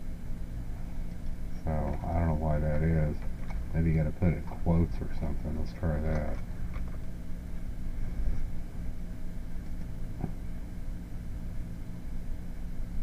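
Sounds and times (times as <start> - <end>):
low hum and hiss: 0.0 - 13.0.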